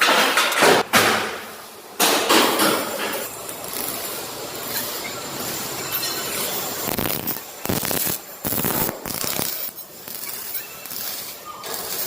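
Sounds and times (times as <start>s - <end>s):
welder arc crackling: 1.5s - 12.0s.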